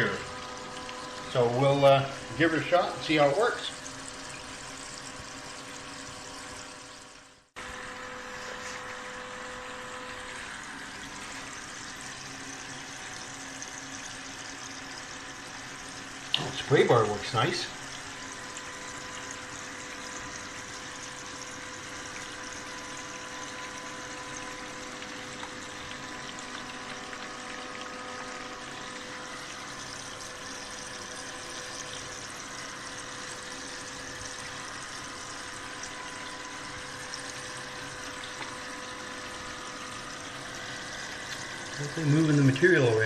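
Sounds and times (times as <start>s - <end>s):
water spraying and running down sluice: 0.0s - 7.3s, 8.2s - 43.0s.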